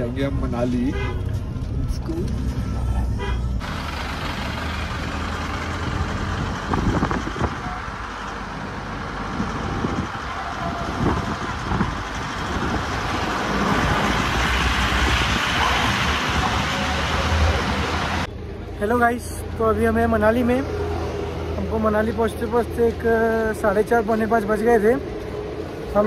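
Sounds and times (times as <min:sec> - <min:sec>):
tyre and road noise: 0:00.0 - 0:26.0
vehicle engine rumble: 0:00.0 - 0:26.0.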